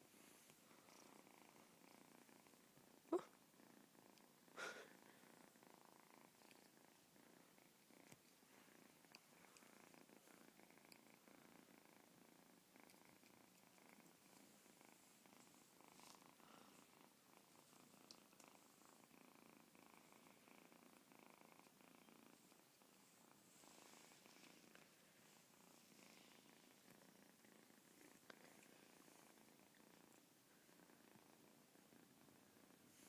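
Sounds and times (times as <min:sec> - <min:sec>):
kitten purring: 0:00.0 - 0:33.0.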